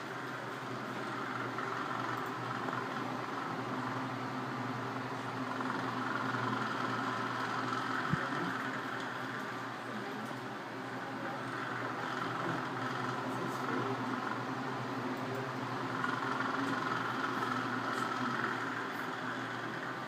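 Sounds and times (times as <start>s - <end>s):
electric fans whirring: 0.0s - 20.0s.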